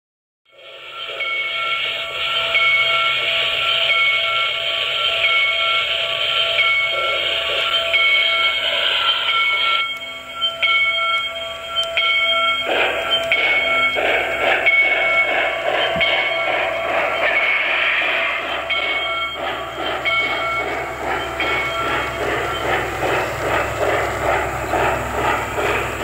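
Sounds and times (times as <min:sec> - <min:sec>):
steam hiss: 0:00.6 - 0:26.0.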